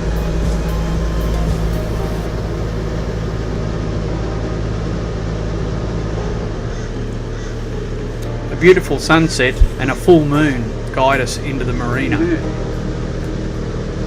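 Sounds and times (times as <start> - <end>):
boat engines droning: 0.0 - 14.0.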